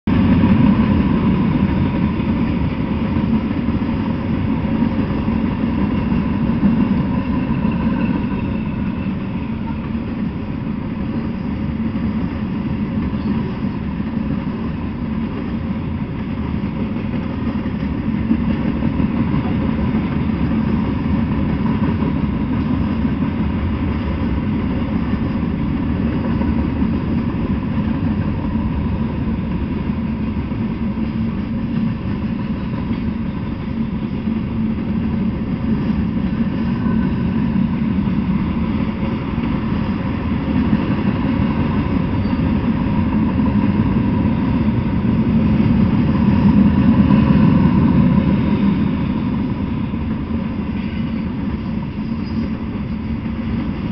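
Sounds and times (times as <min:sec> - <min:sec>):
diesel locomotive passing: 0:00.0 - 0:53.9
freight train rumbling on rails: 0:00.0 - 0:53.9.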